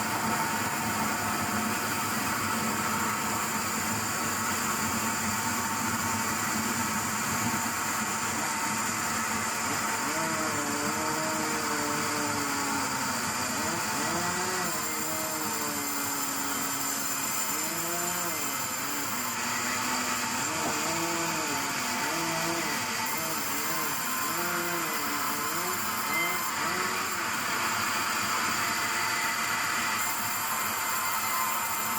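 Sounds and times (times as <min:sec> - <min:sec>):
sawmill machinery humming: 0:00.0 - 0:31.9.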